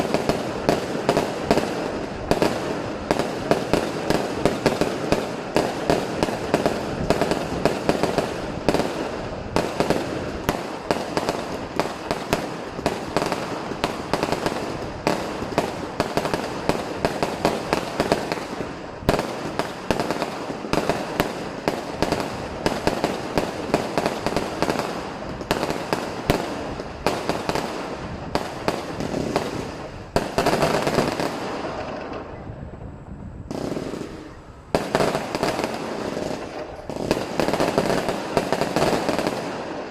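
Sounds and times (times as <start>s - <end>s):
firecrackers and fireworks banging: 0.0s - 39.9s.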